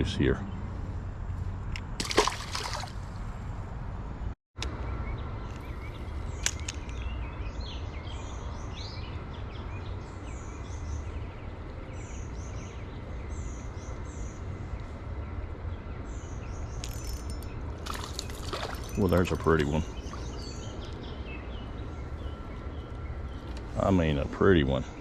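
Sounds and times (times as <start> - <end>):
low outdoor rumble: 0.0 - 25.0
small birds chirping: 4.7 - 25.0.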